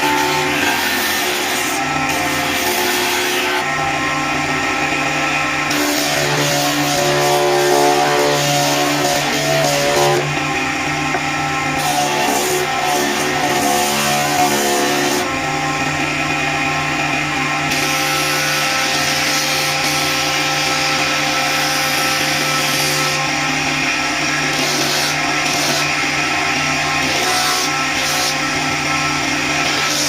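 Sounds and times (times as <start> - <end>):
power tool motor running: 0.0 - 30.0.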